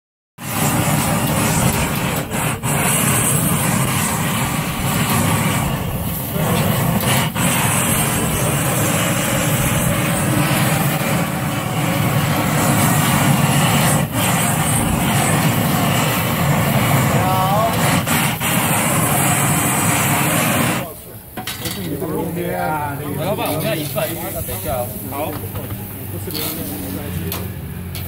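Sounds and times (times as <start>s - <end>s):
gas torch flame rushing: 0.4s - 28.0s.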